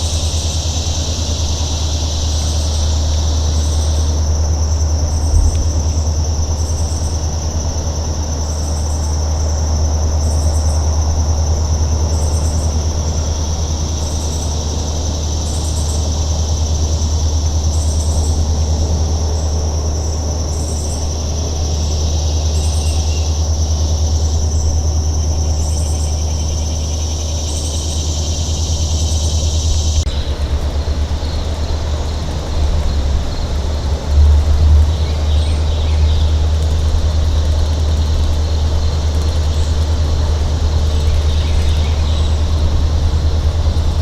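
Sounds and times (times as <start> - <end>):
low rumble: 0.0 - 8.5, 16.1 - 44.0
high-pitched insect drone: 0.0 - 44.0.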